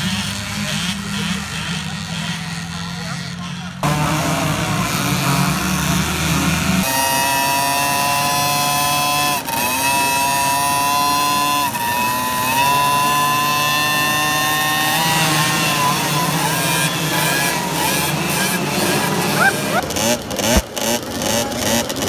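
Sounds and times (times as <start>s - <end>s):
motocross bike engines revving high: 0.0s - 22.0s.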